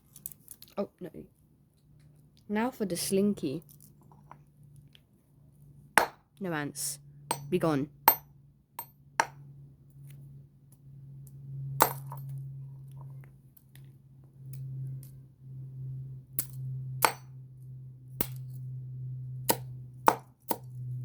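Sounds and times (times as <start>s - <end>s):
steady low hum: 0.8s - 21.0s.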